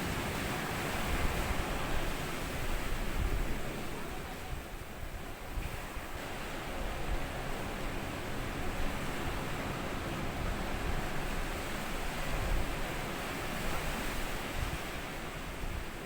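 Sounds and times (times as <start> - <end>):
waves washing over sandy beach: 0.0 - 16.0.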